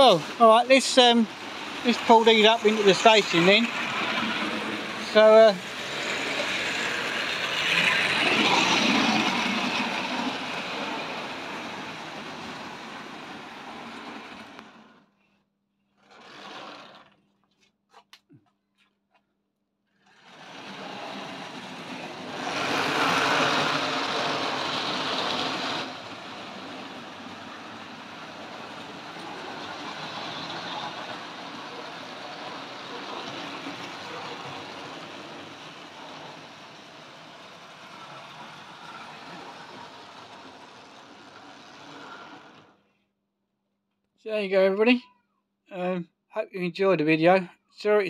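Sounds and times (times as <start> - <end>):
model train wheels whirring on rails: 0.0 - 15.1, 16.0 - 17.2, 20.0 - 42.9.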